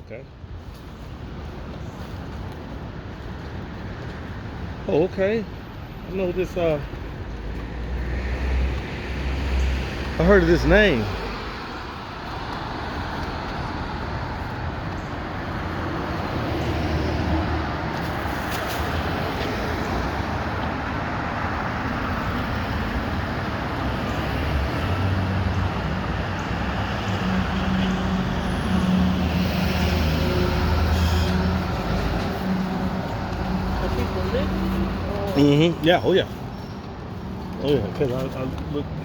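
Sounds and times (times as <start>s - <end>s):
passing vehicles rushing: 2.8s - 39.0s.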